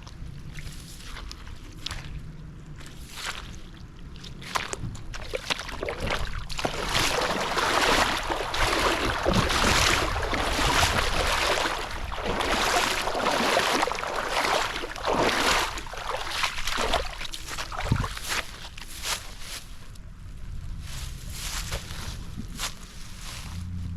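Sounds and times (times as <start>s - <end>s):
river water splashing: 0.0s - 19.9s, 21.3s - 23.6s.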